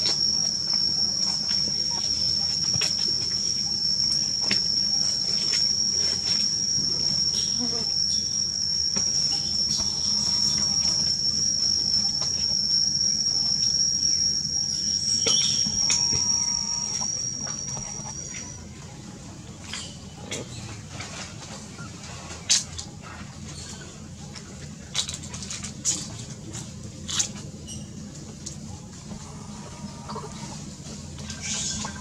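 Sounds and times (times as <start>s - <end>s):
insects droning whine: 0.0s - 32.0s.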